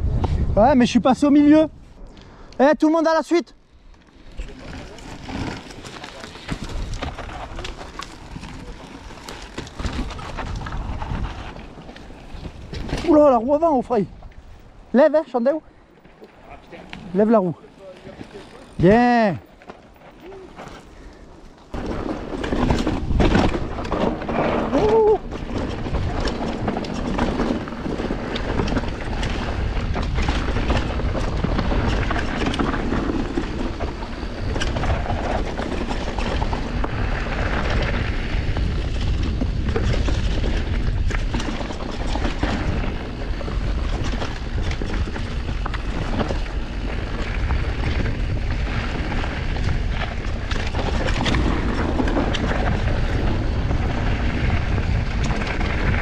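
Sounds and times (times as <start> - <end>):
wind rumble on microphone: 0.0 - 2.1, 4.2 - 15.0, 21.7 - 56.0
tyres on rock and gravel: 3.6 - 56.0
bike knocking and clattering: 4.0 - 14.0, 16.0 - 56.0.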